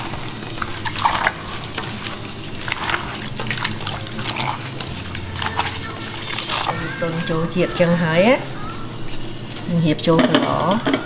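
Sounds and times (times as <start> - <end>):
cucumbers squelching in marinade: 0.0 - 11.0.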